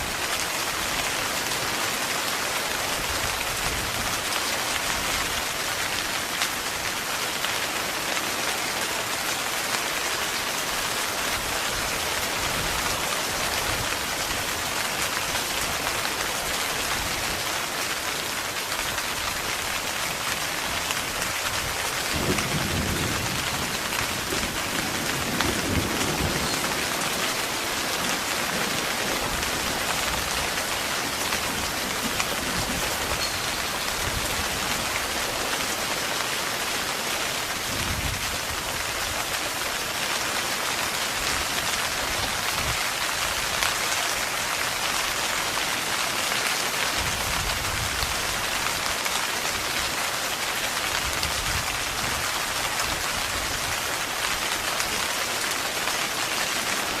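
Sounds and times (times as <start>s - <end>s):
heavy rain on tent fabric: 0.0s - 57.0s.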